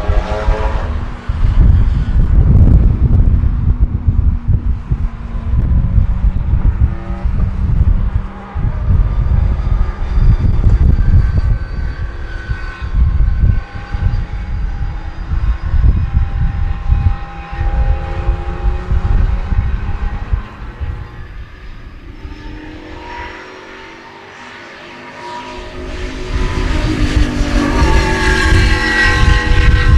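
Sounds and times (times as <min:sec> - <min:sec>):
wind buffeting microphone: 0:00.0 - 0:24.2, 0:25.4 - 0:29.9
race car engine revving: 0:00.0 - 0:29.9.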